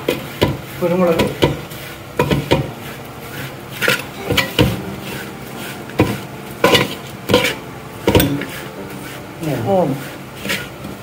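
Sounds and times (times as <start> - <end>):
wooden spoon scraping metal pot: 0.0 - 11.0.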